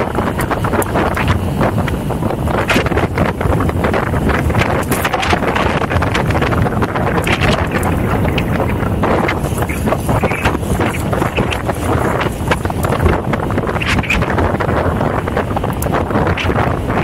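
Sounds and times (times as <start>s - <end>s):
crackles and clicks: 0.0s - 17.0s
wind buffeting microphone: 0.0s - 17.0s.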